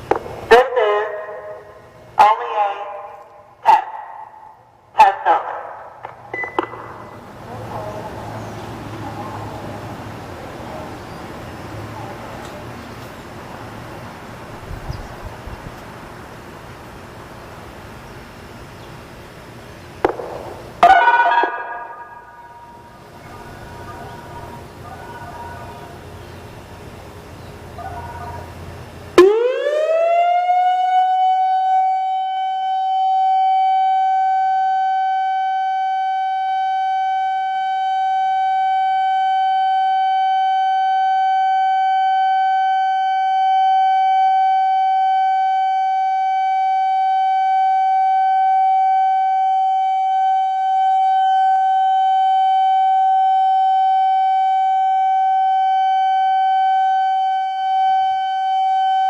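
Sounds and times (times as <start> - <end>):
siren steady high tone: 0.0 - 10.8, 20.0 - 26.8, 27.7 - 59.0
faint rising siren wails: 0.0 - 17.2, 20.0 - 26.9, 27.6 - 59.0.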